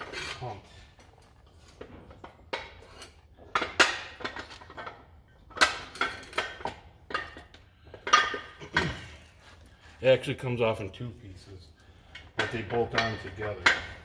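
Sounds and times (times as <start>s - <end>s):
metal parts clanking on concrete: 0.0s - 9.6s, 12.1s - 14.0s.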